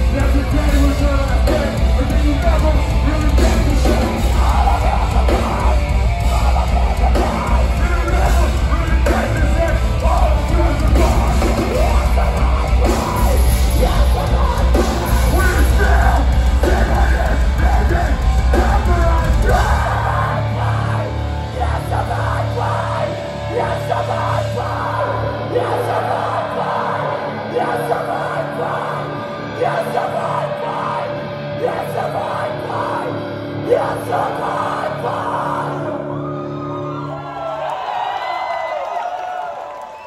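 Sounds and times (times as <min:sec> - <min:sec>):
heavy metal band playing live: 0:00.0 - 0:37.6.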